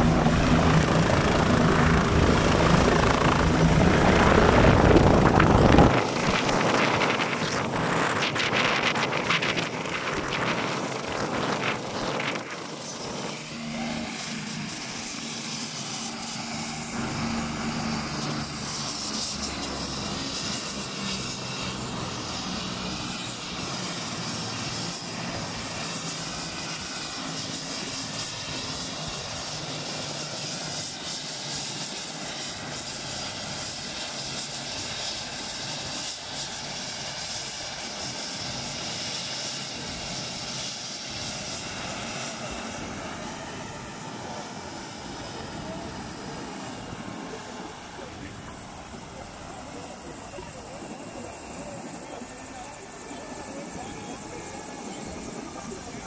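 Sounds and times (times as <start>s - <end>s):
aircraft engine running: 0.0s - 56.0s.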